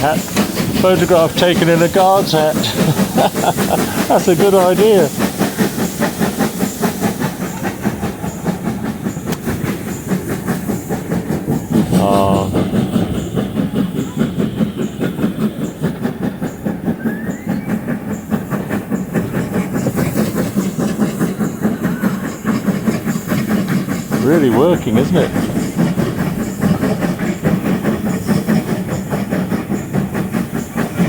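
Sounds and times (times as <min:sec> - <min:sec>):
steam hissing: 0:00.0 - 0:31.0
steam locomotive chuffing: 0:00.0 - 0:31.0
train clattering on rails: 0:00.0 - 0:31.0.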